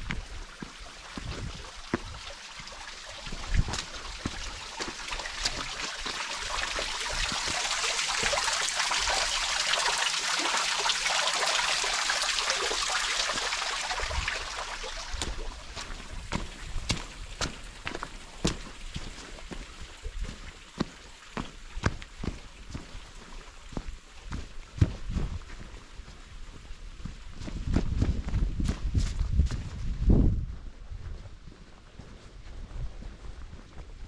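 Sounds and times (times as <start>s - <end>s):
footsteps: 0.0s - 8.3s, 15.0s - 34.0s
running water trickling: 0.0s - 27.5s.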